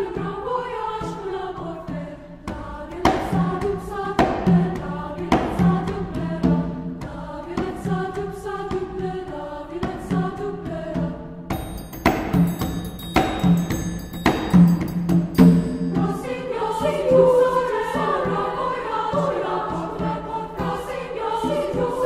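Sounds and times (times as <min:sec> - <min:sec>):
treble choir singing: 0:00.0 - 0:22.0
struck accompaniment beat: 0:02.5 - 0:22.0.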